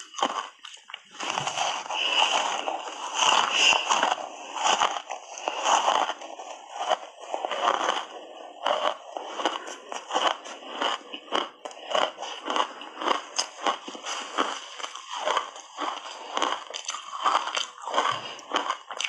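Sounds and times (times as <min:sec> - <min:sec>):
ice crunching being chewed: 0:00.0 - 0:19.0.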